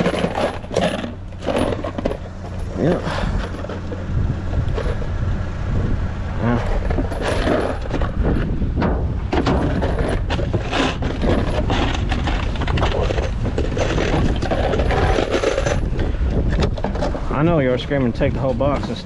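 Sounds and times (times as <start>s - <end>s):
low rumble: 0.0s - 18.6s.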